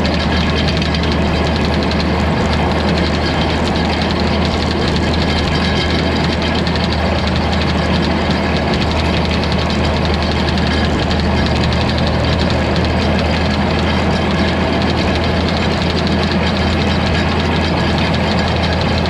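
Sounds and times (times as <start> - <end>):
machinery clattering: 0.0 - 19.0
tractor engine running: 0.0 - 19.0.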